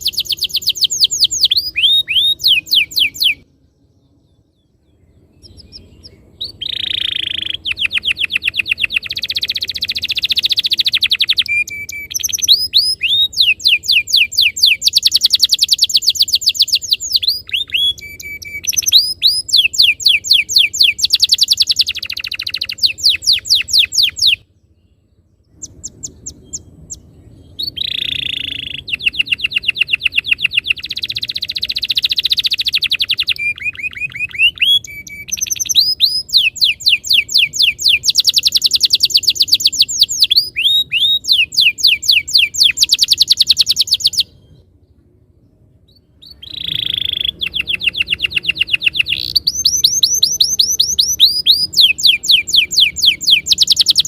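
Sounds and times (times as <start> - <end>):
canary singing rolling trills: 0.0 - 54.0.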